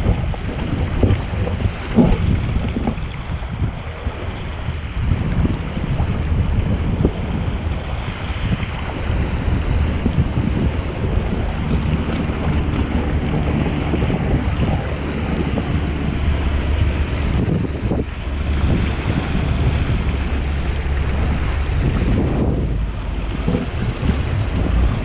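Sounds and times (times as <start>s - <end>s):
water splashing along hull: 0.0s - 25.0s
wind buffeting microphone: 0.0s - 25.0s.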